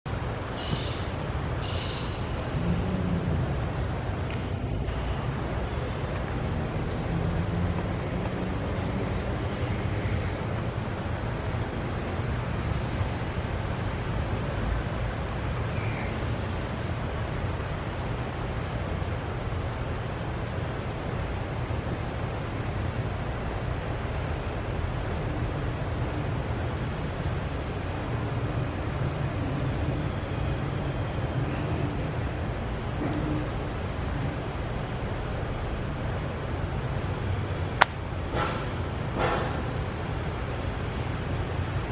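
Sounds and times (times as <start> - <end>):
low rumbling background noise: 0.1 - 41.9.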